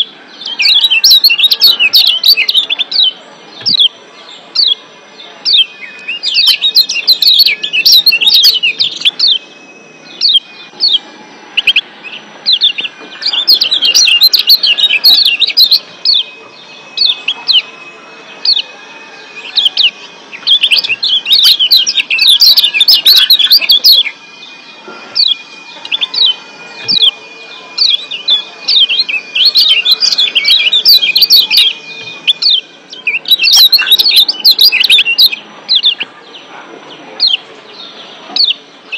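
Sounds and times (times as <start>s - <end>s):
bird chirping rapidly: 0.0s - 36.4s, 37.2s - 38.9s.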